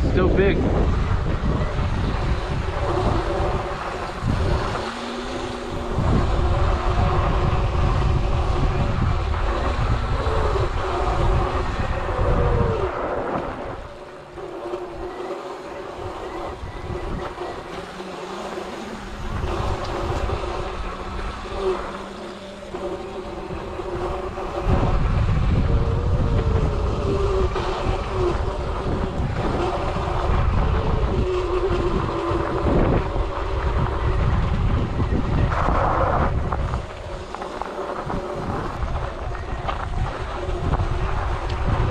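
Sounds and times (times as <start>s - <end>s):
electric motor whine: 0.0s - 41.9s
tyres rumbling over dirt: 0.0s - 41.9s
wind noise on microphone: 0.0s - 41.9s.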